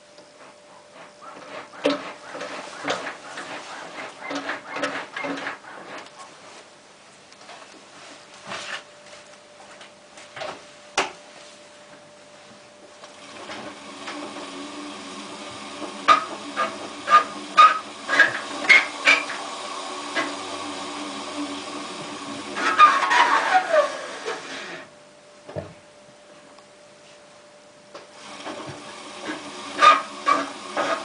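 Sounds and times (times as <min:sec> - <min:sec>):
washing machine motor hum: 0:00.0 - 0:31.0.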